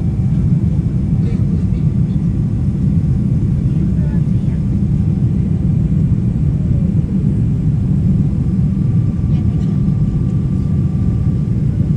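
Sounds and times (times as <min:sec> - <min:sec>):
airplane cabin engine rumble: 0:00.0 - 0:11.9.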